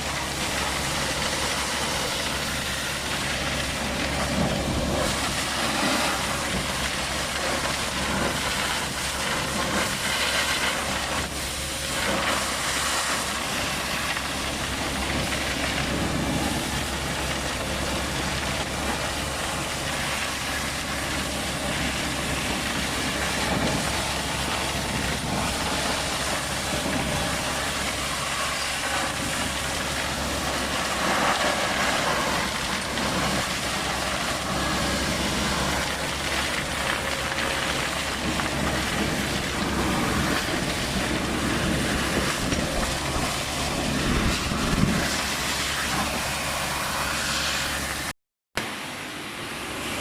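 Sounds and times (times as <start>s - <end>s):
engine hum: 0.0s - 50.0s.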